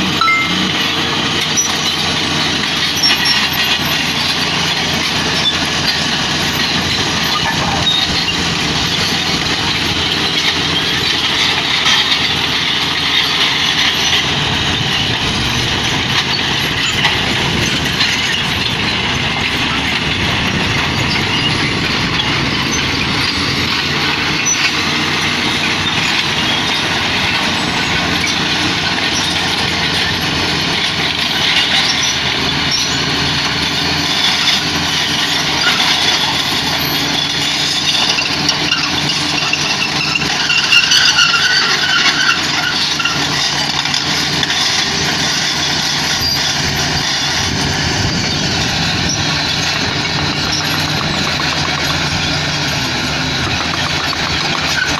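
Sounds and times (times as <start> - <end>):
heavy machinery diesel engines: 0.0 - 54.9.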